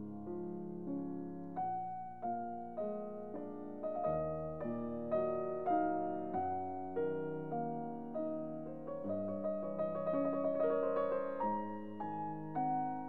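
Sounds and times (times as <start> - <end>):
soft piano notes: 0.0 - 13.0.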